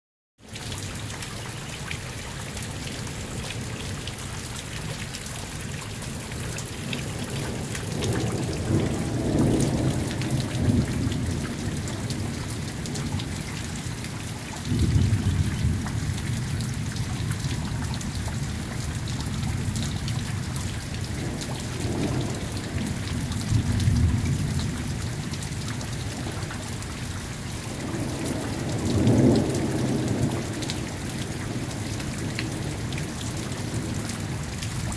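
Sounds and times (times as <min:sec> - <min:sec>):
steady rain: 0:00.4 - 0:34.9
thunder rumbling: 0:06.2 - 0:34.9.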